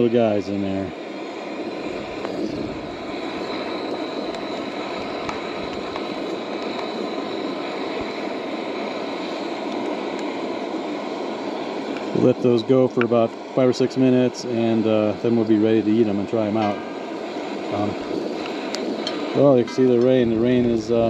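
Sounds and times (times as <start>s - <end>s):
camp stove burner roaring: 0.0s - 21.0s
water boiling in a pot: 0.0s - 21.0s.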